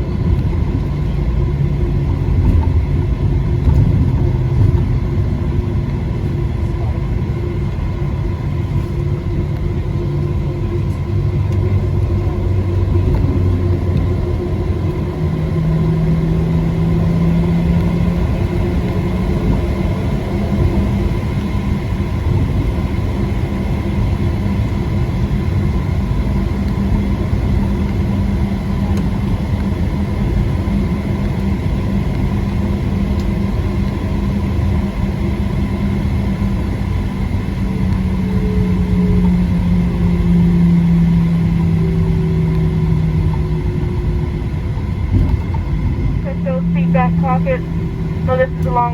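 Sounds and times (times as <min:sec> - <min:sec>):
airplane cabin rumble: 0:00.0 - 0:48.9
low hum: 0:00.0 - 0:48.9.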